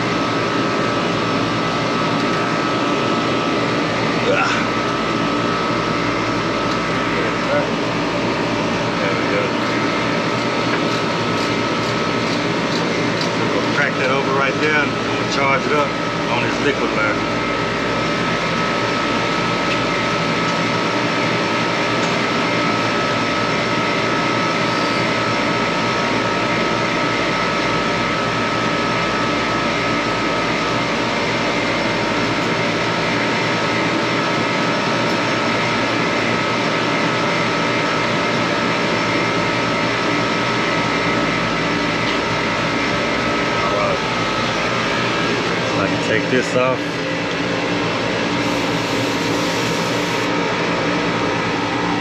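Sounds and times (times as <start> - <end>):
air conditioning machinery drone: 0.0 - 52.0.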